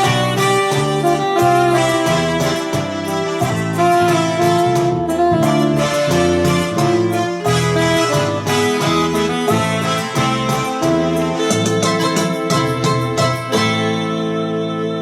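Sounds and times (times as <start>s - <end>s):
drum and bass accompaniment: 0.0s - 14.4s
electronic keyboard melody: 0.0s - 15.0s.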